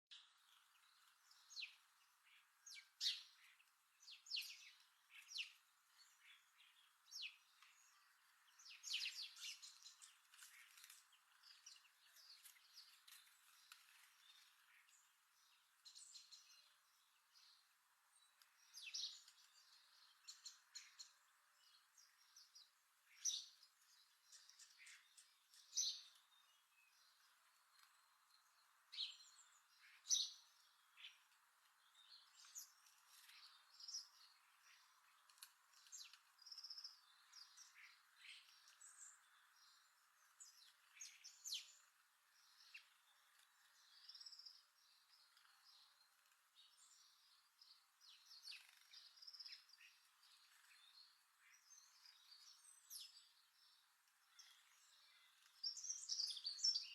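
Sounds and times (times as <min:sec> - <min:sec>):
birds chirping: 0:00.1 - 0:56.9.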